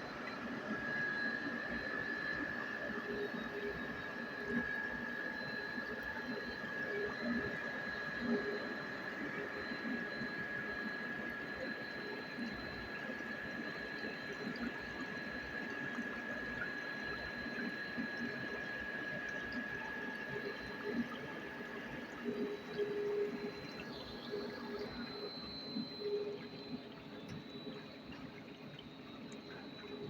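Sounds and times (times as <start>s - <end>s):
machinery high-pitched whine: 0.0s - 30.0s.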